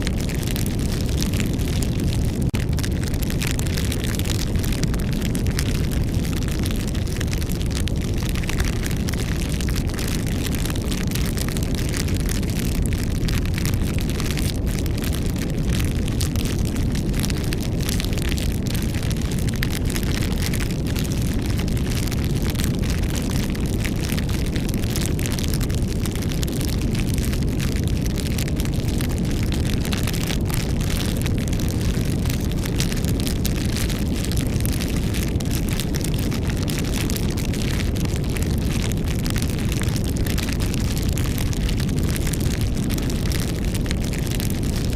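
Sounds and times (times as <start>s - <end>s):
burning wood crackling and popping: 0.0s - 44.9s
campfire burning: 0.0s - 44.9s.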